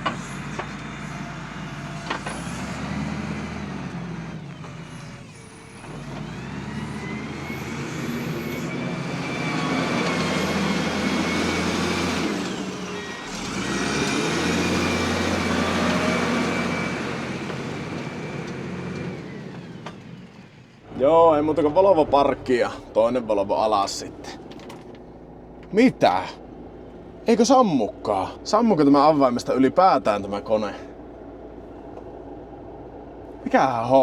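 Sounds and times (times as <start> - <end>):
high engine whine: 0.0 - 34.0
truck diesel engine running: 0.0 - 34.0.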